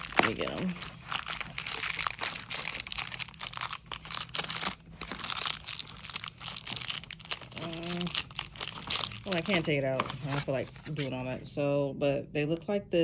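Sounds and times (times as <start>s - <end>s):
crinkly packaging being squeezed: 0.0s - 11.4s.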